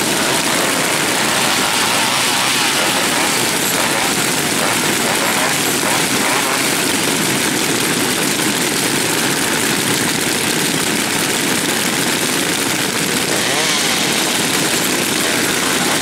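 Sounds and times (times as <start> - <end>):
chainsaws idling: 0.0 - 16.0.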